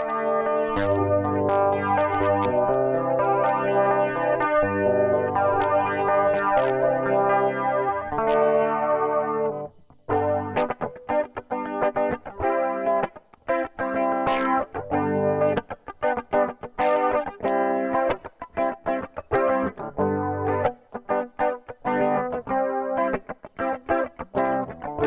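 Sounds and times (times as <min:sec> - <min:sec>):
electric guitar with chorus: 0:00.0 - 0:25.0.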